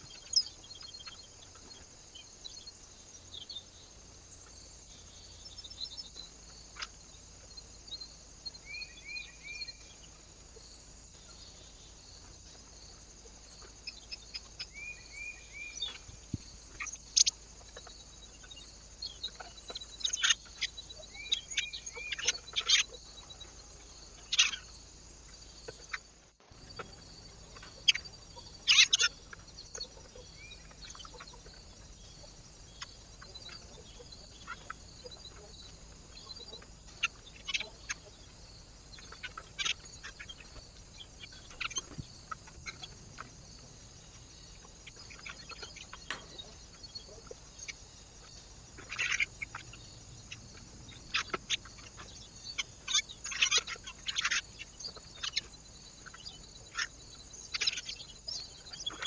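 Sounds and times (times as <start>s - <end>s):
birds calling and chirping: 0.0s - 59.0s.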